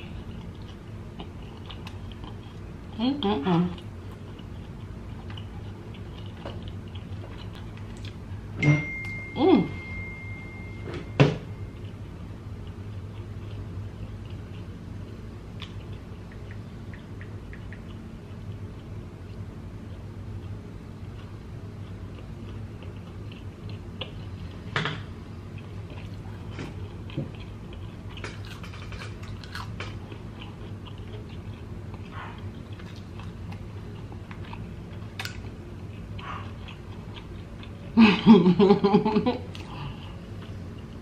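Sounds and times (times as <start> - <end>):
crunchy chewing: 0.0 - 3.0, 3.7 - 8.3, 11.7 - 24.6, 25.4 - 38.0.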